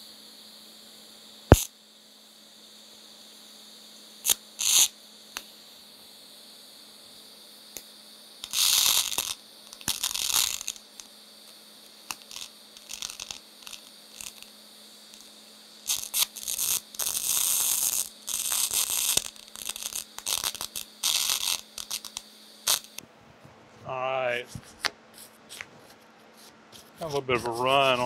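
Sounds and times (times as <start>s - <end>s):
welding arc hum: 0.0s - 1.8s, 2.4s - 23.0s, 26.4s - 28.0s
welding arc hissing and crackling: 0.0s - 23.0s, 26.8s - 28.0s.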